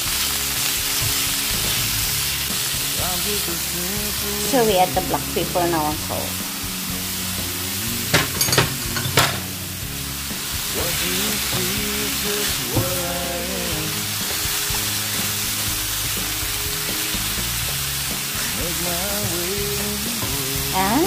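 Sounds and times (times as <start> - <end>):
background music: 0.0 - 21.0
vegetables sizzling in frying pan: 0.0 - 21.0.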